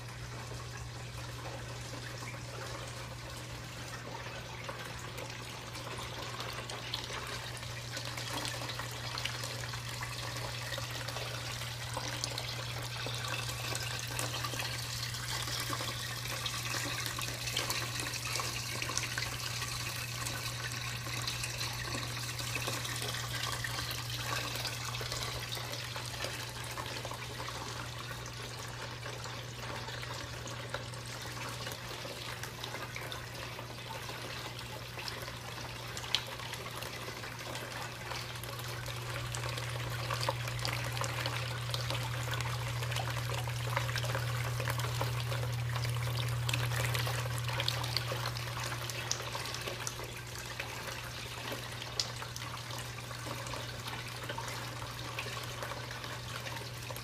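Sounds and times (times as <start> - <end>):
water swirling and draining: 0.0 - 57.0.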